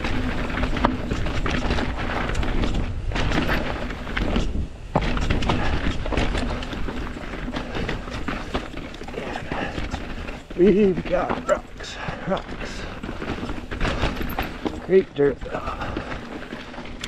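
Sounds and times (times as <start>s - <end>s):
bike rattling over bumps: 0.0s - 17.0s
tyres crunching over rock: 0.0s - 17.0s
wind buffeting microphone: 0.0s - 17.0s.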